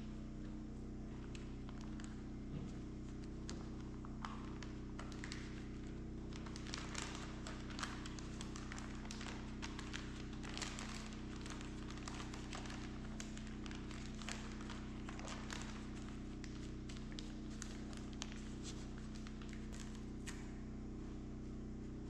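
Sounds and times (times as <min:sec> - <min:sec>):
steady low hum: 0:00.0 - 0:22.0
paper crinkling and rustling: 0:01.3 - 0:20.4.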